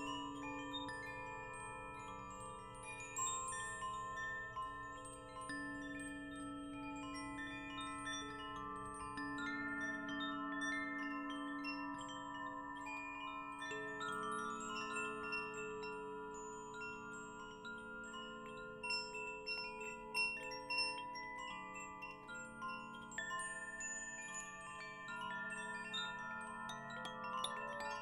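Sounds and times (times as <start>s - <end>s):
wind chimes ringing: 0.0s - 28.0s.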